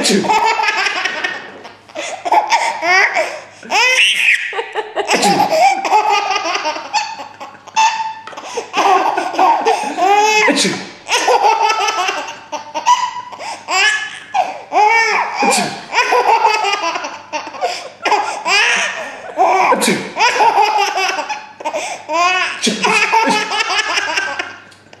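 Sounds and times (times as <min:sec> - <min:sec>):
young child laughing: 0:00.0 - 0:25.0.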